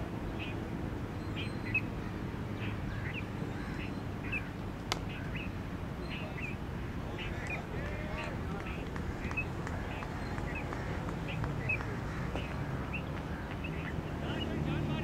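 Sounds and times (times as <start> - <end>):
low background noise: 0.0 - 15.0
bird chirping: 1.2 - 15.0.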